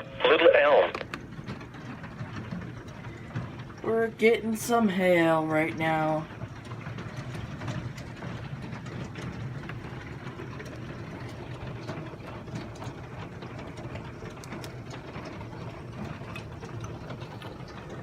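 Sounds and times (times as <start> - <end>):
hail falling on roofs: 0.0 - 18.0
steady low hum: 0.0 - 18.0.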